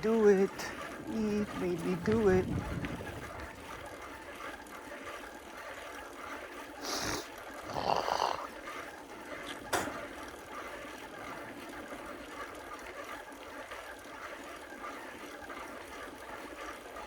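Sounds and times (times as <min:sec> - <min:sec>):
bicycle riding in traffic: 0:00.0 - 0:17.0.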